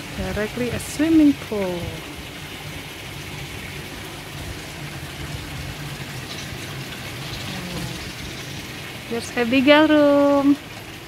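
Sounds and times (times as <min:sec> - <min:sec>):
fountain jets splashing into pool: 0:00.0 - 0:11.0.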